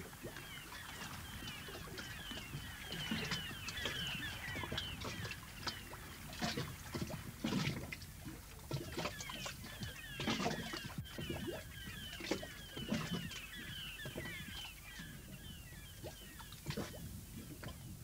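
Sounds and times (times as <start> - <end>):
small birds chirping: 0.0 - 7.6, 8.7 - 17.9.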